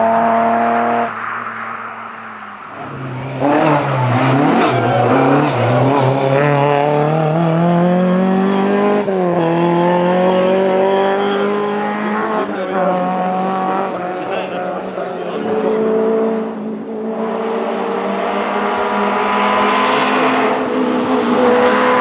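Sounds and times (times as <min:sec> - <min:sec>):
car engine revving hard: 0:00.0 - 0:22.0.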